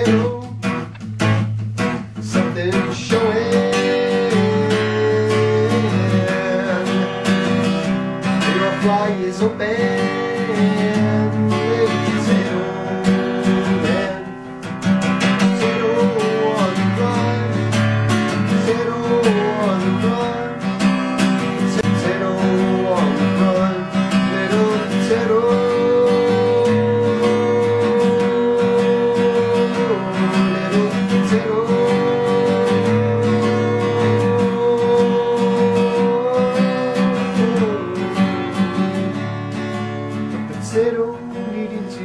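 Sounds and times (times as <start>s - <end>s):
man singing: 0.0s - 1.0s, 1.8s - 42.0s
acoustic guitar strumming: 0.0s - 42.0s.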